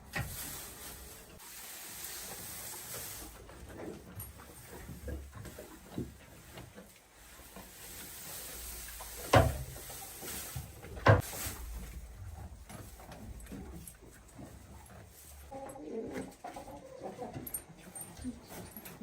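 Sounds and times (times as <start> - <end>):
faint rustling: 0.0 - 19.0.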